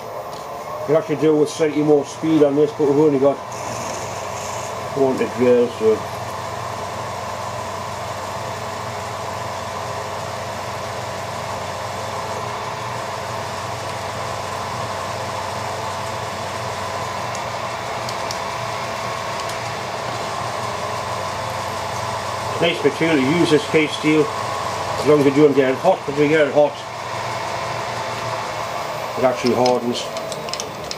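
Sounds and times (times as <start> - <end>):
milling spindle whine: 0.0 - 30.9.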